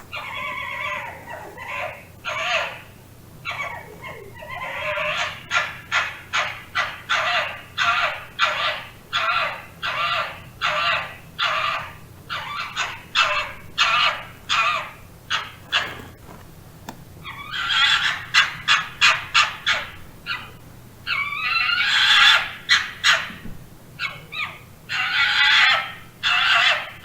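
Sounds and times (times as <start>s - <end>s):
fox harsh calls: 0.0s - 16.3s, 17.2s - 23.4s, 24.0s - 27.0s.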